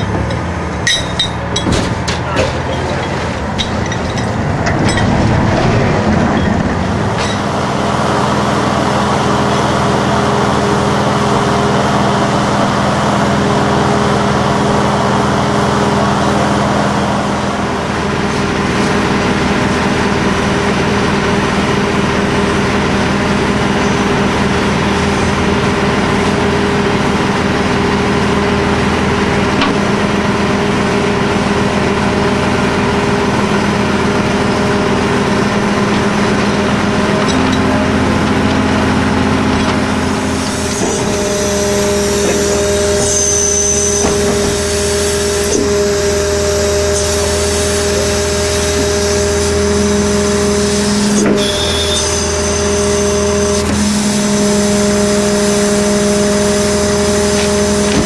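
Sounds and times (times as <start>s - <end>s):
engine droning steadily: 0.0s - 58.0s.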